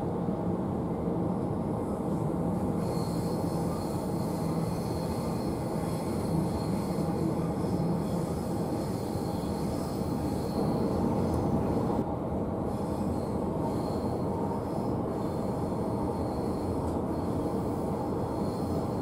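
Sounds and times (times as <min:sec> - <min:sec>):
electric train running rumble: 0:00.0 - 0:19.0
high wheel squeal: 0:02.8 - 0:12.0, 0:12.8 - 0:19.0.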